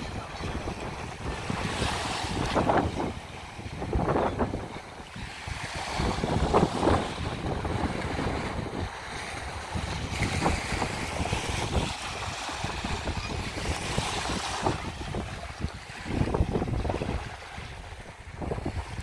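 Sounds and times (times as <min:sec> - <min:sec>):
small waves washing onto beach: 0:00.0 - 0:19.0
wind gusting across microphone: 0:00.0 - 0:19.0.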